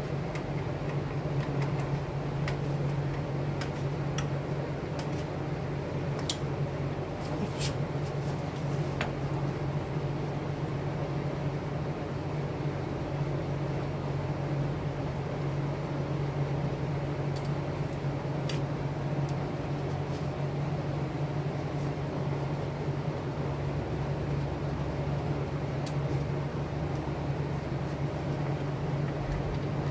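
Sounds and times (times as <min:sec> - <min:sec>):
low machine hum: 0:00.0 - 0:29.9.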